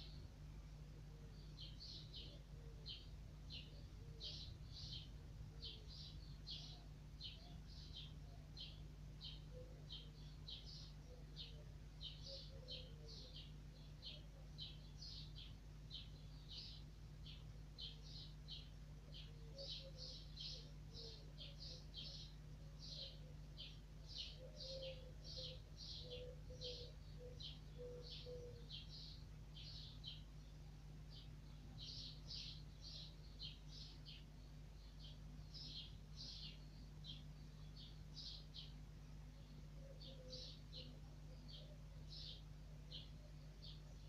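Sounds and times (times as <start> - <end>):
steady low hum: 0.0 - 44.0
small bird chirping: 1.3 - 44.0.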